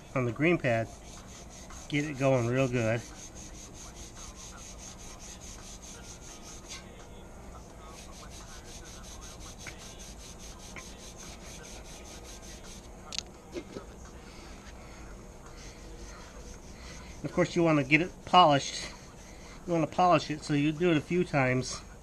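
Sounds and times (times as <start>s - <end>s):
abrasive pad scrubbing chrome: 0.2s - 7.0s, 7.8s - 12.9s, 15.4s - 21.3s.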